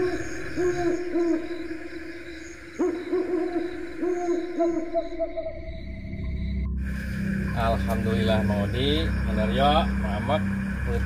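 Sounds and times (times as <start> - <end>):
owl hooting: 0.0 - 11.0.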